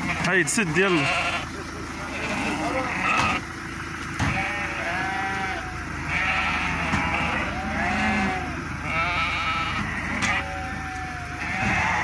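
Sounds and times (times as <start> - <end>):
sheep bleating: 0.0 - 3.5, 4.2 - 12.0.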